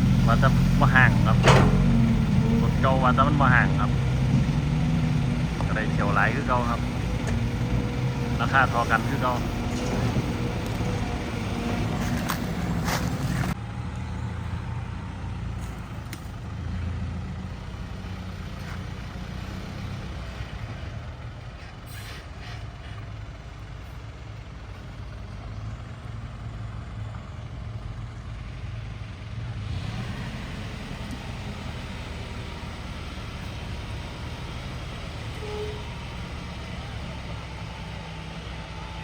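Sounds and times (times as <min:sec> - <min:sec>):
truck engine rumbling: 0:00.0 - 0:39.0.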